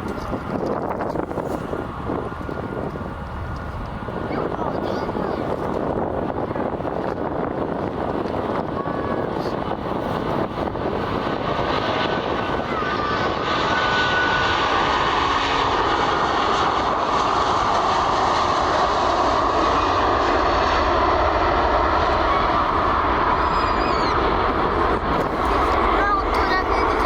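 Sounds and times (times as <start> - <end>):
airliner engines passing: 0.0 - 27.0.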